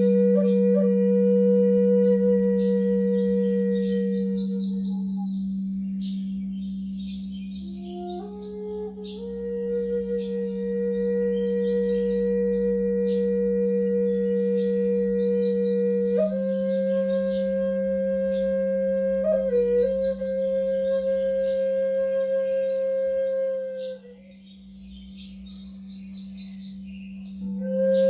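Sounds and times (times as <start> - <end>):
birds chirping: 0.0 - 28.0
flute sustained notes: 0.0 - 28.0.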